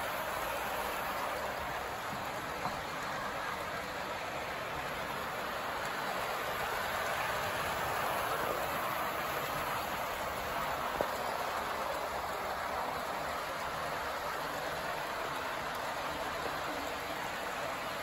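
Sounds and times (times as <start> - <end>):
wheels rolling over rails: 0.0 - 18.0.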